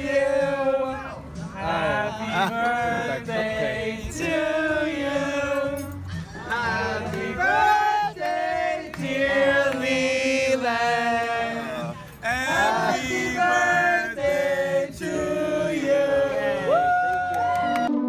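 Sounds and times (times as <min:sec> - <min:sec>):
people singing together: 0:00.0 - 0:16.9.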